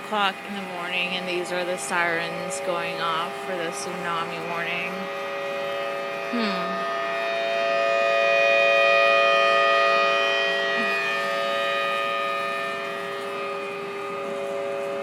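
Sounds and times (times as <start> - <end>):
warning sirens steady tone: 0.0 - 15.0.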